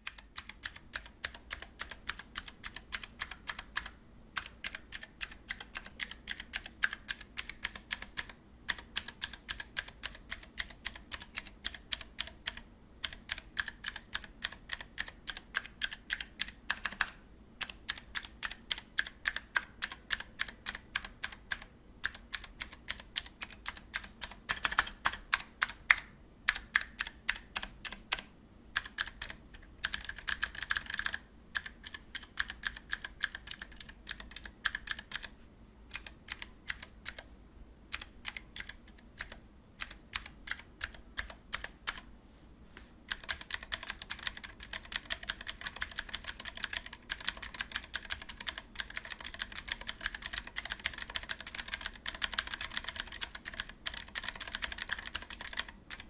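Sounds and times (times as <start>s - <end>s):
mechanical keyboard typing: 0.0s - 37.3s, 37.9s - 42.1s, 43.1s - 56.0s.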